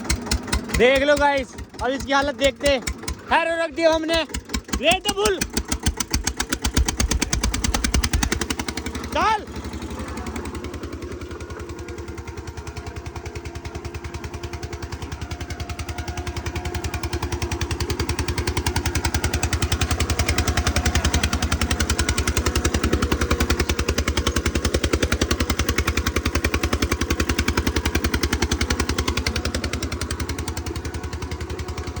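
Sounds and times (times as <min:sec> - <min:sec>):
tractor diesel engine knocking: 0:00.0 - 0:32.0.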